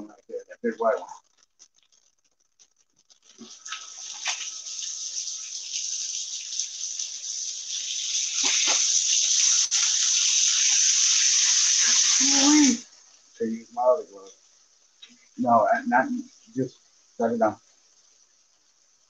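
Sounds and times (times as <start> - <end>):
food sizzling on griddle: 0.6 - 19.0.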